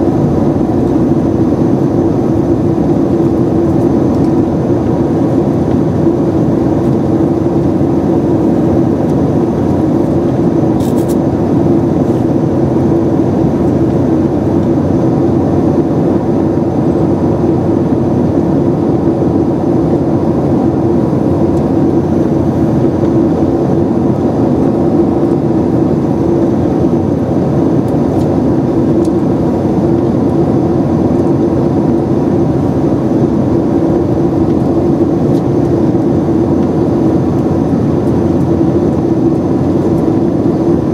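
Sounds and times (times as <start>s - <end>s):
airplane cabin engine drone: 0.0s - 40.9s.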